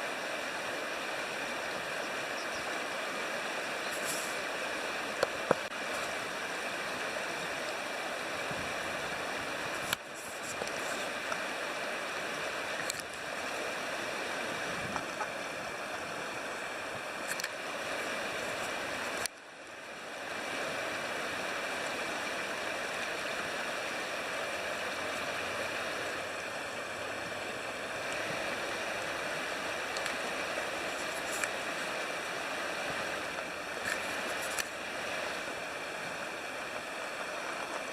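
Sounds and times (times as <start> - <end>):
river water flowing: 0.0 - 37.9.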